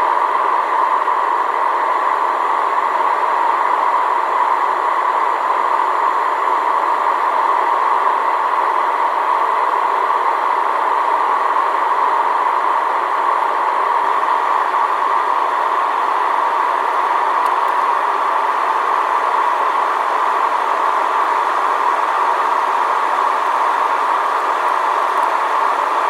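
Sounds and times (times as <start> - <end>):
aircraft engine drone in cabin: 0.0 - 26.0.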